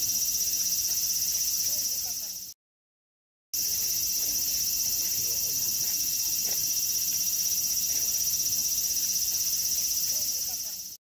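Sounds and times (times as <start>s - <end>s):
insects chirring: 0.0s - 2.6s, 3.6s - 11.0s.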